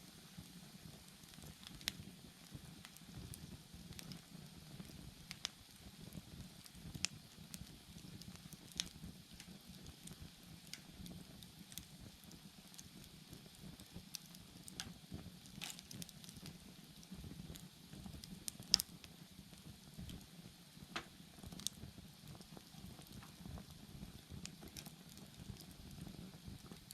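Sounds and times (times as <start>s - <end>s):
low rumble of flames: 0.0s - 26.9s
wood fire crackling: 0.0s - 26.9s.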